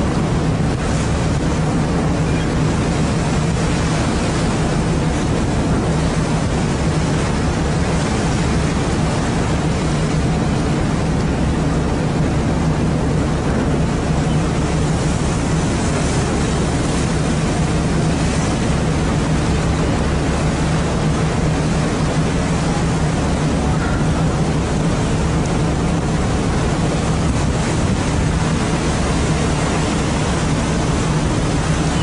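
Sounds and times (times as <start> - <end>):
boat engine humming: 0.0 - 32.0
sea noise: 0.0 - 32.0
wind: 0.0 - 32.0.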